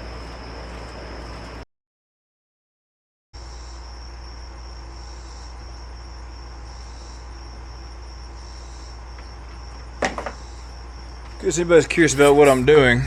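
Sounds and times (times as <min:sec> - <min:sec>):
crickets chirping: 0:00.0 - 0:01.6, 0:03.4 - 0:13.0.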